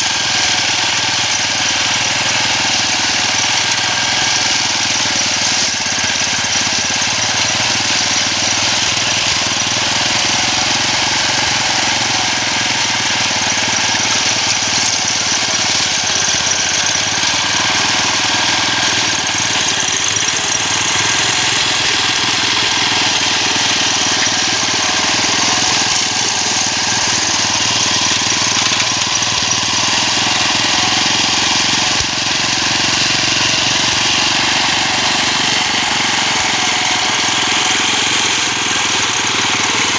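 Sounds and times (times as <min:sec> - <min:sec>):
small lawnmower engine running: 0:00.0 - 0:39.9.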